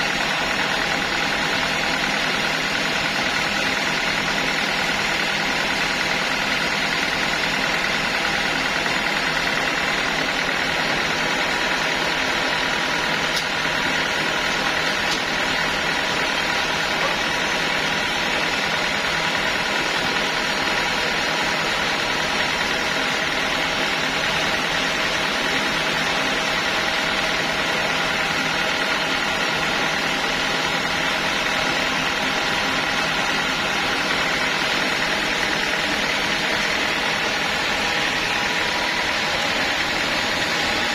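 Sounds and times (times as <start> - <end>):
sawmill machinery whining: 0.0 - 40.9.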